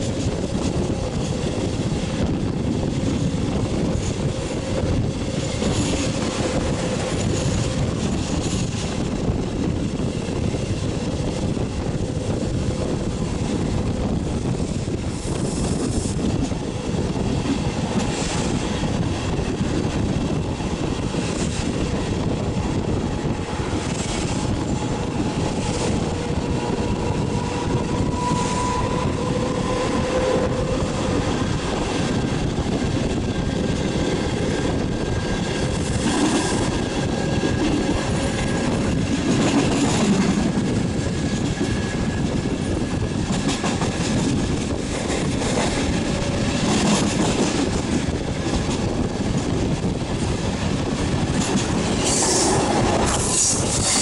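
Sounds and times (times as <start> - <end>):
rushing air: 0.0 - 54.0
train wheels rumbling on rails: 0.0 - 54.0.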